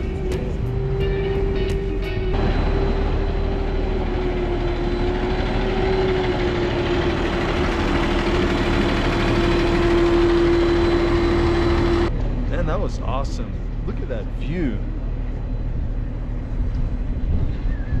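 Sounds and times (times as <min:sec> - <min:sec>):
sustained mechanical whine: 0:00.0 - 0:18.0
train mechanical drone and rumble: 0:00.0 - 0:18.0.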